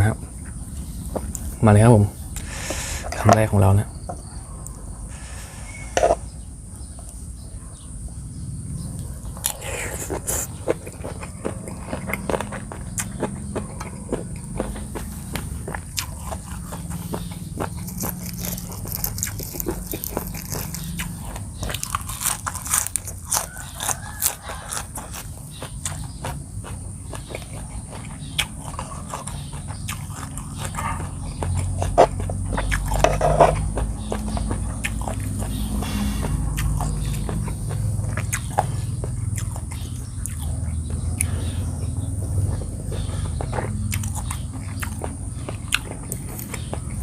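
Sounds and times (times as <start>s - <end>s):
chewing and crunching: 0.0s - 47.0s
high insect drone: 0.0s - 47.0s.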